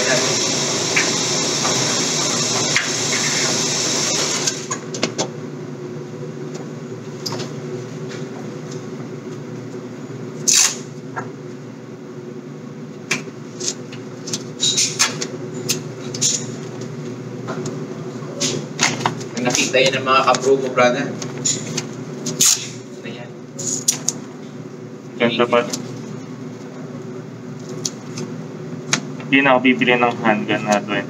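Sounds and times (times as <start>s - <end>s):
steady low hum: 4.6s - 31.0s.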